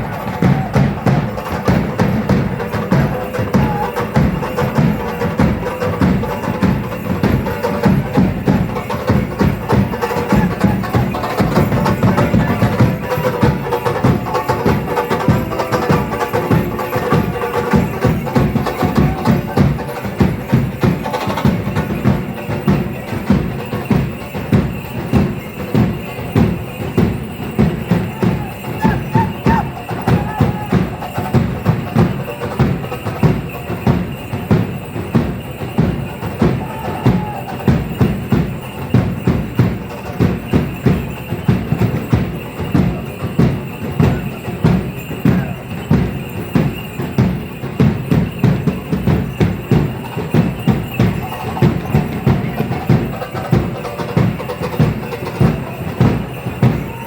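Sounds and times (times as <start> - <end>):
drums beating fast rhythm: 0.0 - 57.0.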